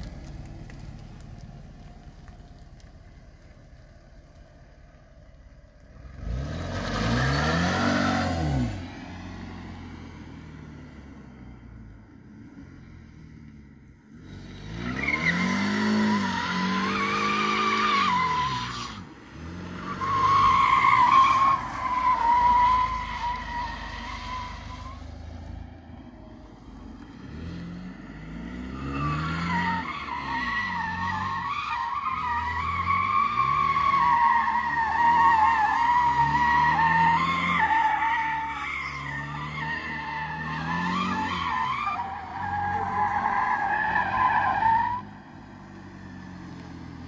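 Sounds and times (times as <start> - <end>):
car engine revving: 0.0 - 11.6, 14.1 - 47.0.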